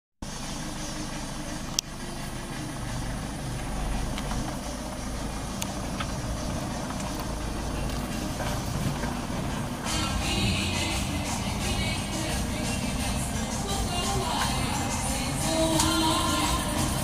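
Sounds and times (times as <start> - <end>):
car engine rumble from inside: 0.2 - 17.0.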